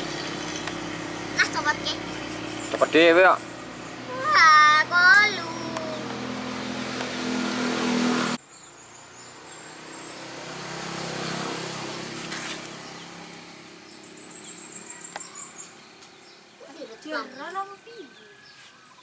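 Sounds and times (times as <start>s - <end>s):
bird chirping rapidly: 0.0s - 7.4s, 8.4s - 19.0s
vehicle engine running close: 0.0s - 18.3s
vehicle passing: 0.0s - 18.6s.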